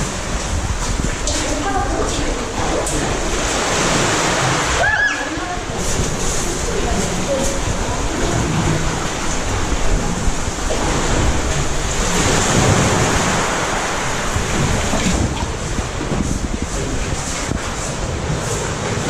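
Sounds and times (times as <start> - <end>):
seawater washing in a cave: 0.0 - 19.0.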